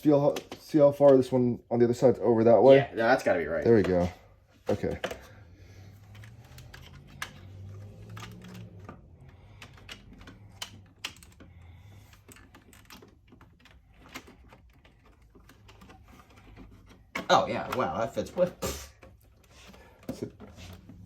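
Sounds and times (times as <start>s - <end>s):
plastic parts clicking: 3.6s - 21.0s.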